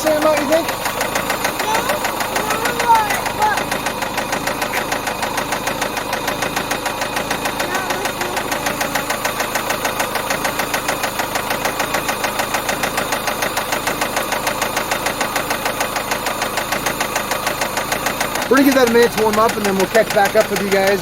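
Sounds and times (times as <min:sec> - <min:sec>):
engine rod knocking: 0:00.0 - 0:21.0
engine running: 0:00.0 - 0:21.0.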